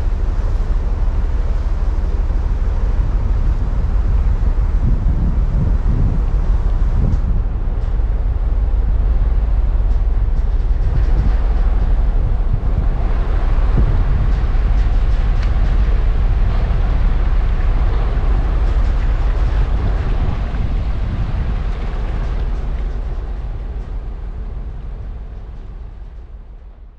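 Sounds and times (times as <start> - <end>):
water and wind hiss: 0.0 - 26.6
ship engine rumble: 0.0 - 26.9.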